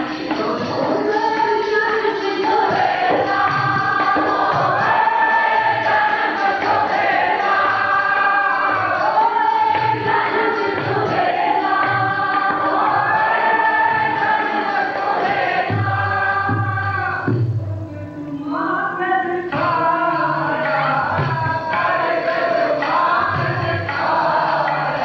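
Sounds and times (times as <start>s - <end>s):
tabla beat: 0.0s - 25.0s.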